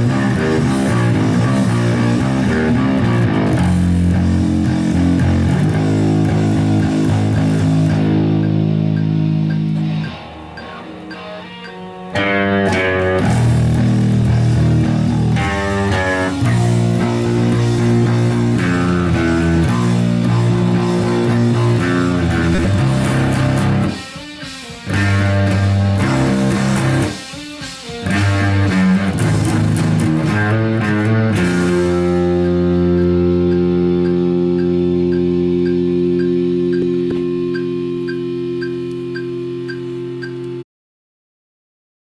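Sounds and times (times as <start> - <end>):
bass guitar: 0.0 - 40.6
electric guitar rock riff: 0.0 - 40.6.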